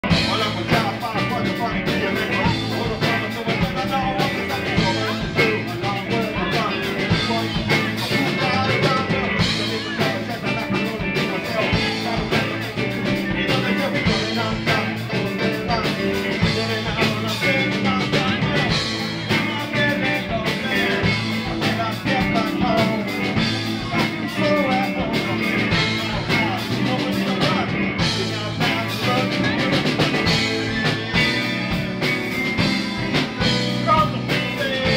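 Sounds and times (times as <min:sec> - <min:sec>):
man singing into a microphone: 0:00.0 - 0:31.9, 0:32.5 - 0:34.9
drum kit: 0:00.0 - 0:34.9
electric guitar: 0:00.0 - 0:34.9.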